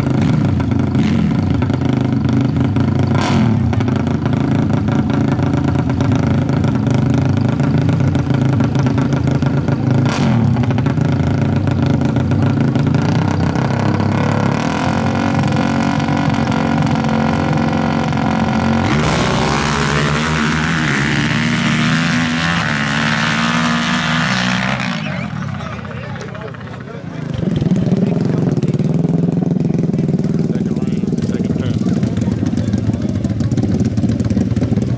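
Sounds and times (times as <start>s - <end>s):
atv engines revving: 0.0s - 34.9s.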